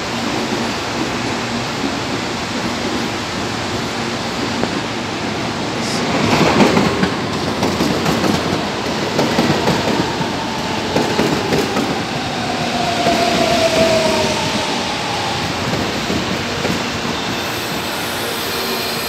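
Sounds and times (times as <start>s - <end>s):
train wheels clattering on track: 0.0s - 14.5s, 15.5s - 18.2s.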